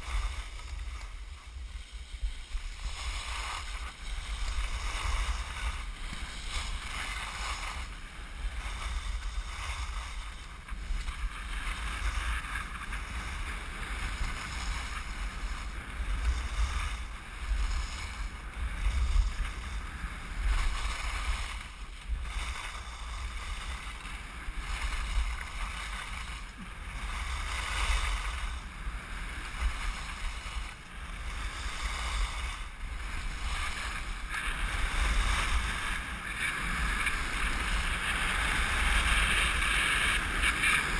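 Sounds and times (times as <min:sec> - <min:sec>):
skis hissing and scraping on snow: 0:00.0 - 0:40.9
wind rumble on microphone: 0:00.0 - 0:40.9.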